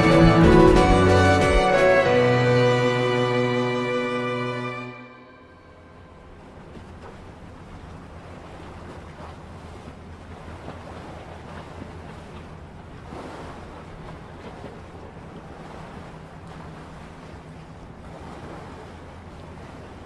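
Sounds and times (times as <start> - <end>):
low steady hum: 0.0 - 20.0
sea waves washing: 0.0 - 20.0.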